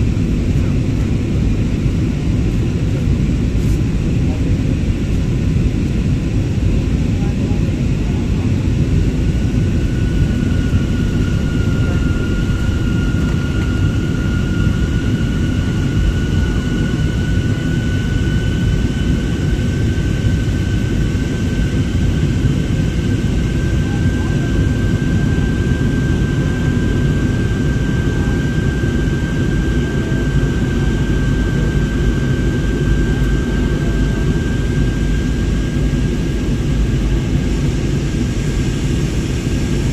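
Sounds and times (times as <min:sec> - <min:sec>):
airliner cabin rumble: 0:00.0 - 0:39.9
jet engine whine: 0:00.0 - 0:39.9.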